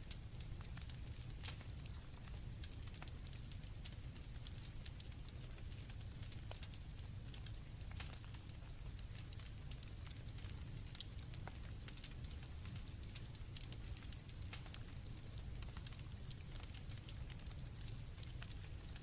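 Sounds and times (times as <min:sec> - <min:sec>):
campfire crackling: 0:00.0 - 0:19.0
crickets chirping: 0:00.1 - 0:19.0.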